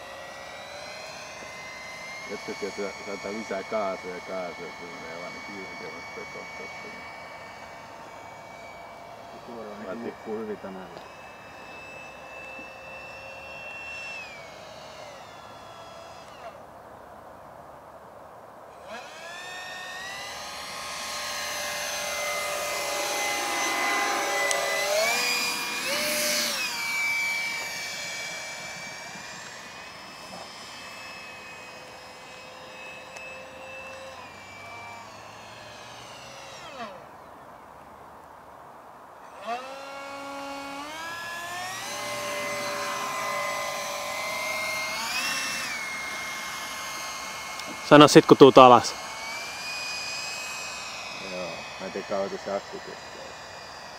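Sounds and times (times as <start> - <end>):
electric ducted fans whining: 0.0 - 53.9.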